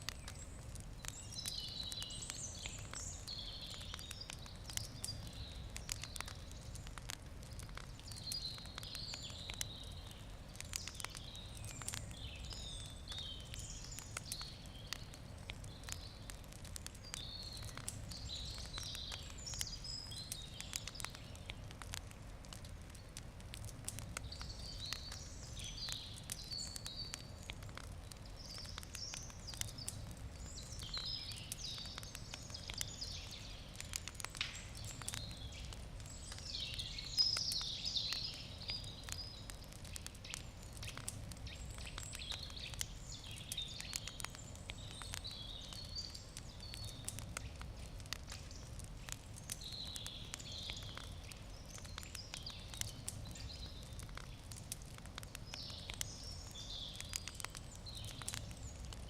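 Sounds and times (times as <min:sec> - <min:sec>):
birds singing: 0:00.0 - 0:21.9, 0:24.2 - 0:54.6, 0:55.2 - 0:59.0
campfire crackling: 0:00.0 - 0:59.0.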